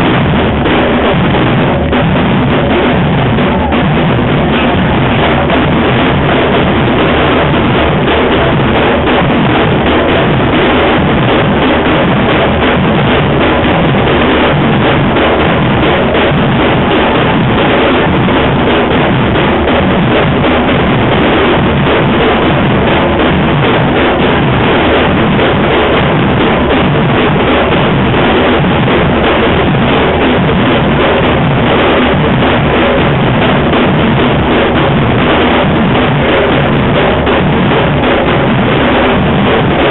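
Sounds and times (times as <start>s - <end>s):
percussion band drumming: 0.0s - 39.9s.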